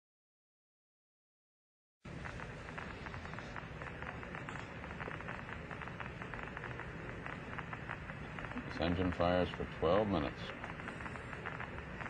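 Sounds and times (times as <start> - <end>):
archival recording hiss and crackle: 2.1 - 12.0.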